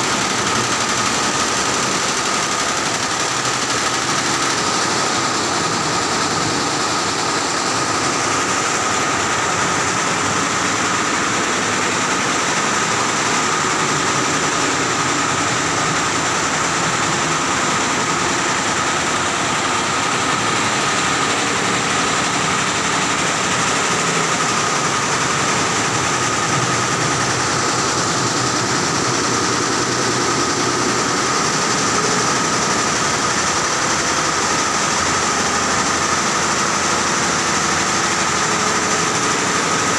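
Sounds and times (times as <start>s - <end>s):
embroidery machinery clatter and hum: 0.0s - 39.9s.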